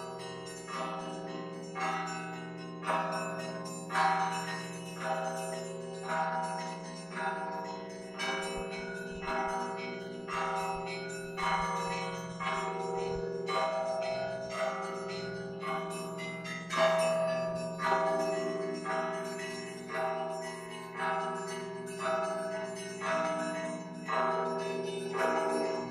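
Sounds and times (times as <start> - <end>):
large bell humming: 0.0 - 25.9
small bells struck: 0.0 - 25.9.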